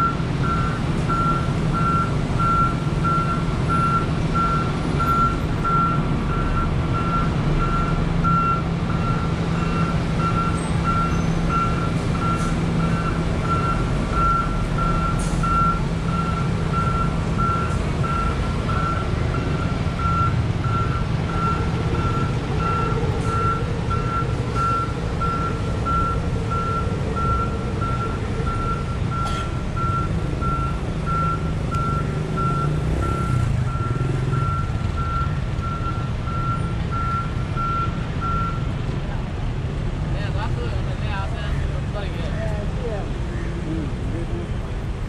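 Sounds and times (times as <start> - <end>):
low engine rumble: 0.0 - 45.0.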